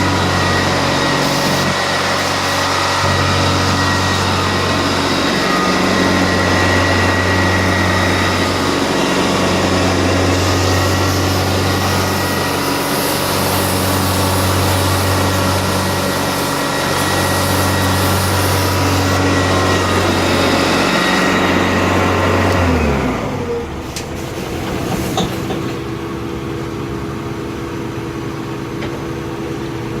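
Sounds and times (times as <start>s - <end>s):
engine humming and winding down: 0.0s - 24.9s.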